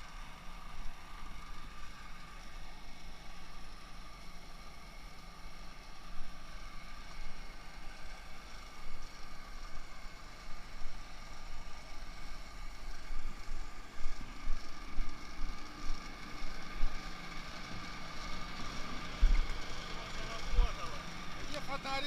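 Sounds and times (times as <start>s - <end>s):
engine whine and rumble: 0.0s - 22.0s.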